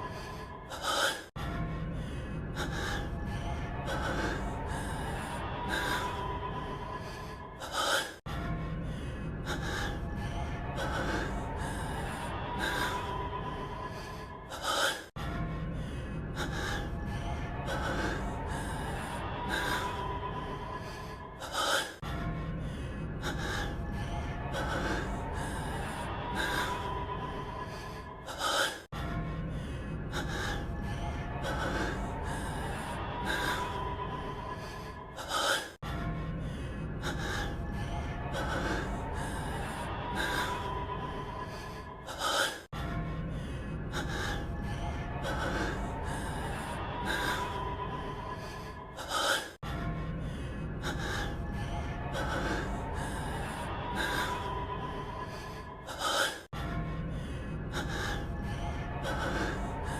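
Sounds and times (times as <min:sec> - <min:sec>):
low background music: 0:00.0 - 0:59.9
man gasping and breathing heavily: 0:00.0 - 0:59.9.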